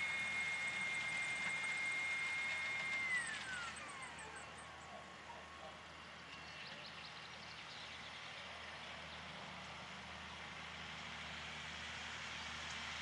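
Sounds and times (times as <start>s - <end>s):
distant tractor engine drone: 0.0s - 13.0s.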